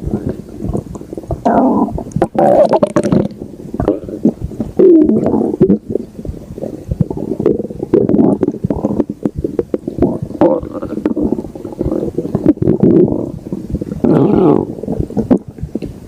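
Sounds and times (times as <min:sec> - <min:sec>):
stomach growling and gurgling: 0:00.0 - 0:16.0.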